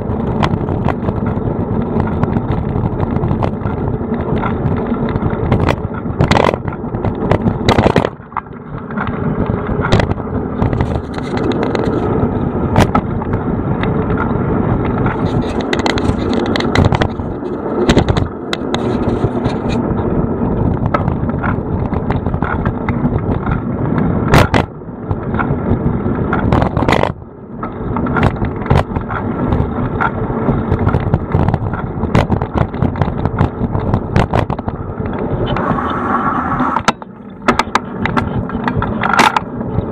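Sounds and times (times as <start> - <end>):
bicycle knocks and rattles: 0.0 - 35.6, 36.7 - 39.9
wind and tyre noise: 0.0 - 39.9.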